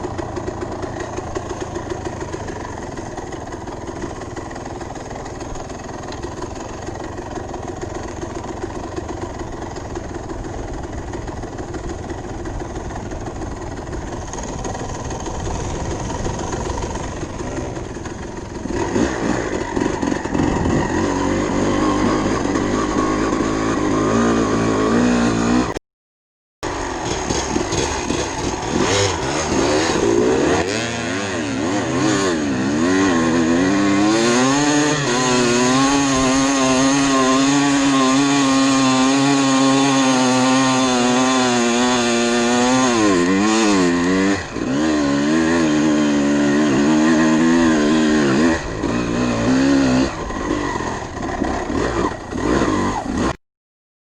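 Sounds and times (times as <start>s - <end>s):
dirt bike engine revving: 0.0s - 25.8s, 26.6s - 53.4s.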